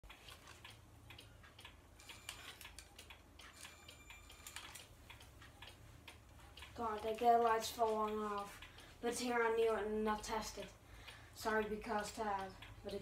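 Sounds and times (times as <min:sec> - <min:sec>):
low room hum: 0:00.1 - 0:13.0.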